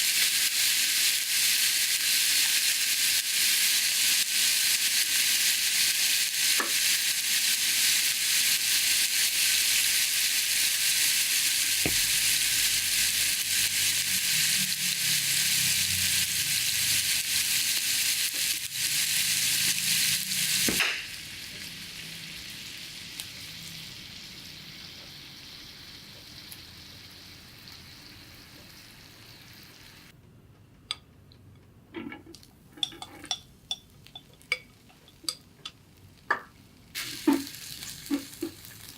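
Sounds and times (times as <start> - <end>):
food sizzling on hot plate: 0.0 - 30.1, 33.1 - 38.9.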